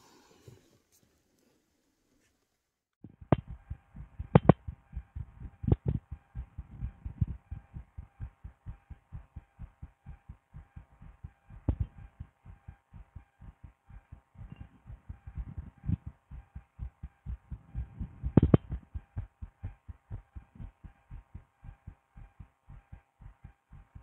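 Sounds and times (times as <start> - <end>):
faint steady hum: 0.0 - 24.0
heartbeat through stethoscope: 3.0 - 24.0
sharp clicks: 3.2 - 24.0.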